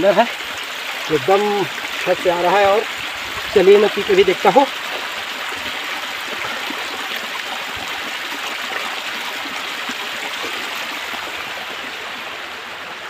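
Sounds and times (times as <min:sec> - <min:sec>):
waterfall stream rushing: 0:00.0 - 0:13.0.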